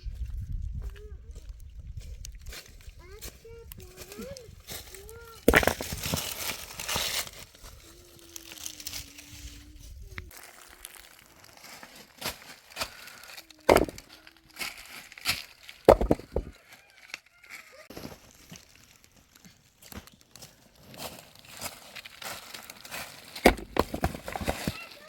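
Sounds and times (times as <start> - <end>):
crinkling and rustling handling noise: 0.8 - 25.0.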